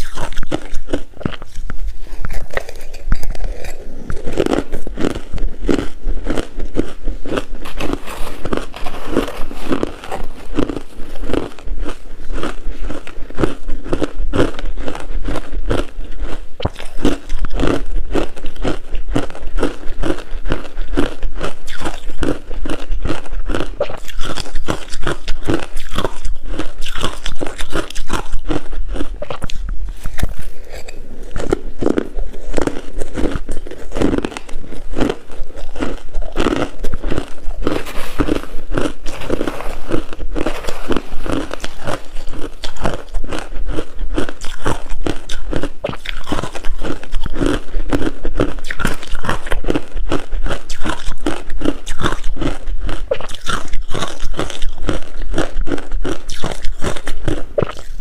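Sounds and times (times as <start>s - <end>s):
ice crunching between teeth: 0.0s - 58.0s.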